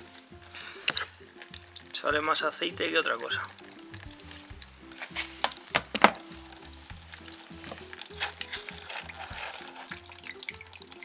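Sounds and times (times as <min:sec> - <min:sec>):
fuel trickling into plastic tray: 0:00.0 - 0:11.0
soft background music: 0:00.0 - 0:11.0.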